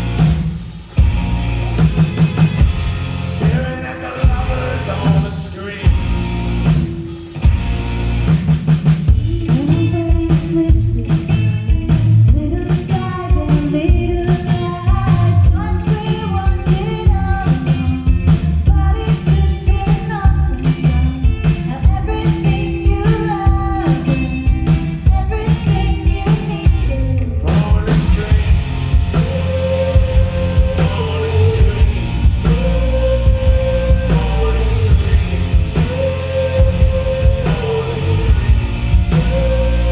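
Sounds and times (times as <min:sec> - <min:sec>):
rock band playing live: 0:00.0 - 0:39.9
person singing: 0:03.4 - 0:06.0, 0:09.2 - 0:39.9.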